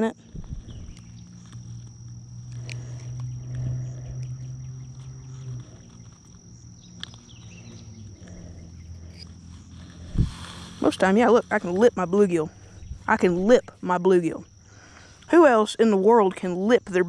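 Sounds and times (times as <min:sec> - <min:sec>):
high-pitched insect drone: 0:00.0 - 0:17.0
low hum: 0:00.0 - 0:17.0.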